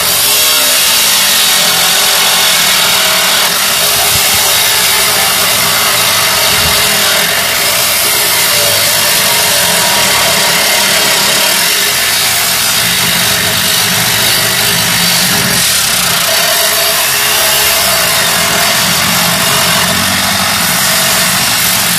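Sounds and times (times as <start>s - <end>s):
power tool cutting metal: 0.0s - 21.9s.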